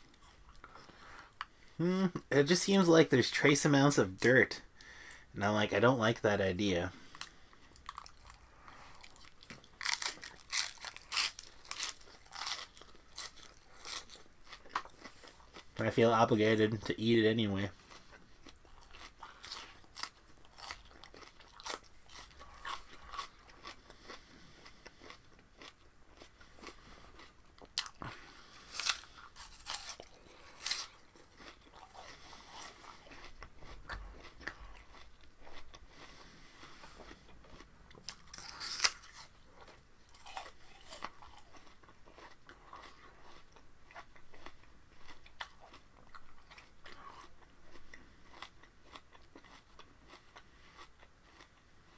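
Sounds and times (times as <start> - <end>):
person chewing crunchy stalks: 6.9 - 16.3, 17.4 - 51.9.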